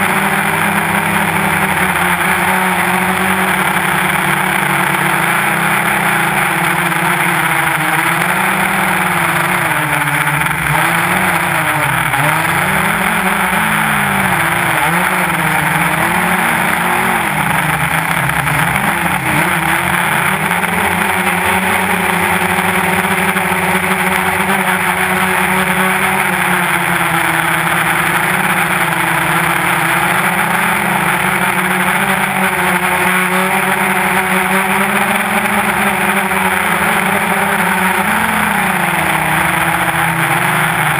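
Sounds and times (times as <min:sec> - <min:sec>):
drone propellers whirring: 0:00.0 - 0:40.9.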